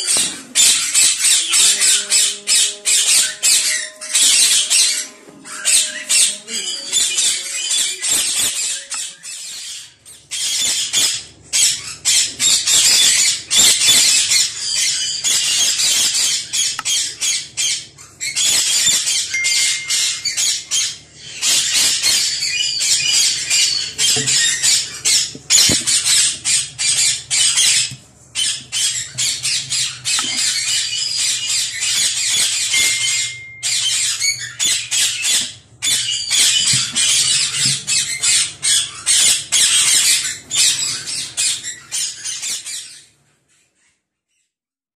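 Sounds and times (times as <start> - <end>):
parakeets screeching: 0.0 - 44.0.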